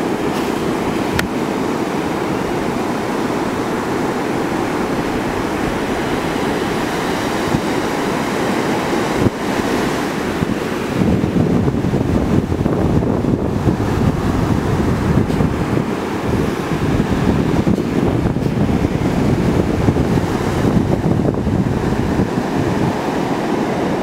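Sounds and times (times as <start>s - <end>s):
waves breaking: 0.0s - 24.0s
wind buffeting microphone: 0.0s - 24.0s.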